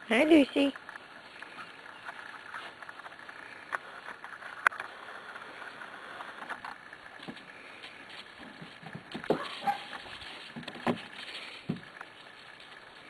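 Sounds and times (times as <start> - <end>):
puppies shuffling and clicking: 0.2 - 13.0.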